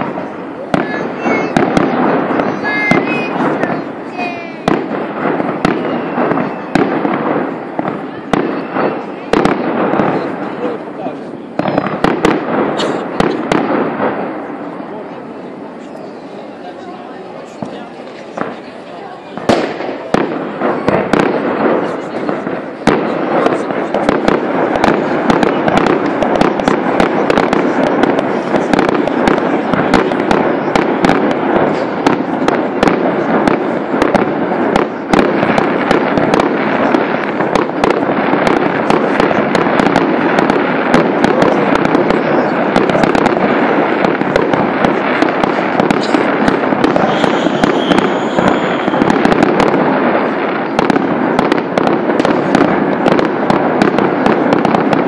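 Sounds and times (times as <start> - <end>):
fireworks bursts and bangs: 0.0 - 55.0
fireworks crackling: 0.0 - 55.0.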